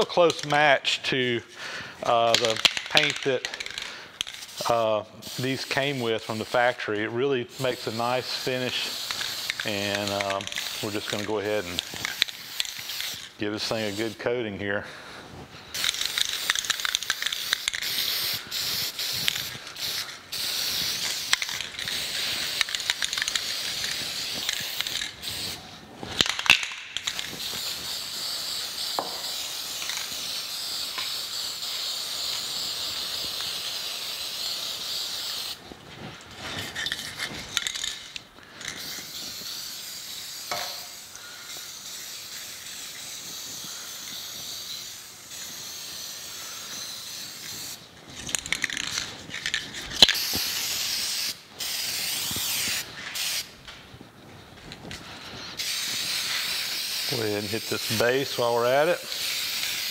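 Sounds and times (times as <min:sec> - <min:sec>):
spray paint can hissing: 0:02.0 - 0:14.2, 0:15.7 - 0:35.6, 0:36.5 - 0:53.6, 0:55.5 - 0:59.9.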